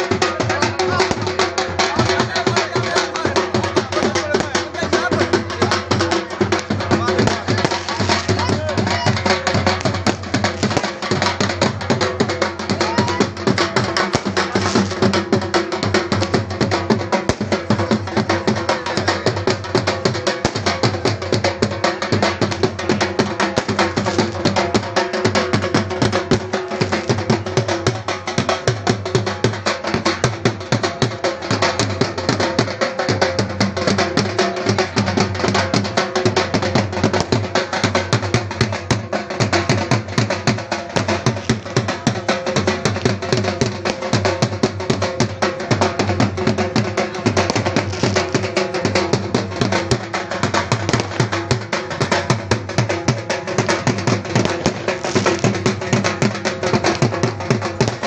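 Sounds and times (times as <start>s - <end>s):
barrel drum beaten fast: 0.0s - 58.0s.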